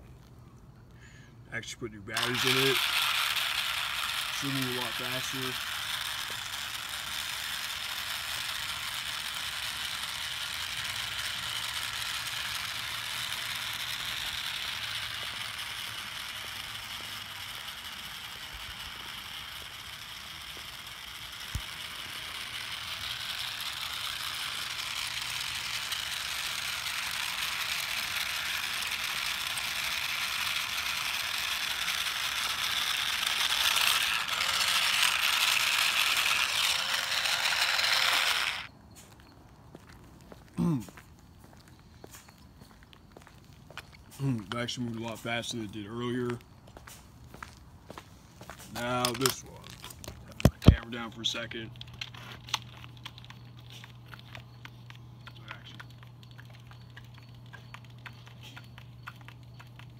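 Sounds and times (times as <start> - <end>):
toy car motor whirring: 1.6 - 38.7, 43.8 - 47.6, 48.4 - 59.9.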